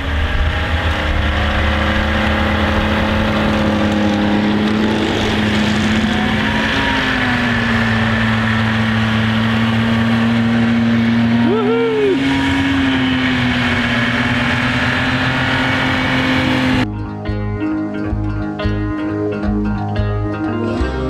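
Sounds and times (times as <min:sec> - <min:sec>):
snowmobile engines running: 0:00.0 - 0:16.9.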